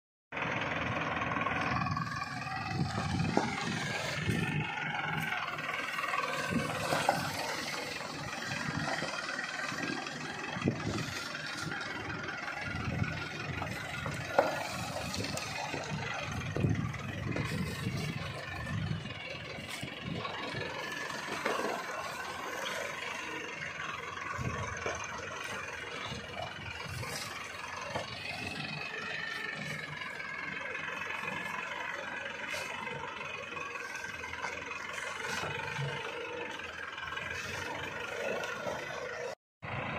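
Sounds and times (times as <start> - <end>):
tractor engine running under load: 0.3 - 39.9.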